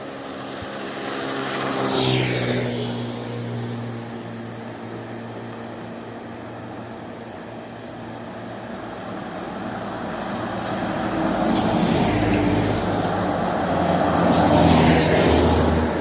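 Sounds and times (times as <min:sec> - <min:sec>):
diesel truck passing: 0:00.0 - 0:16.0.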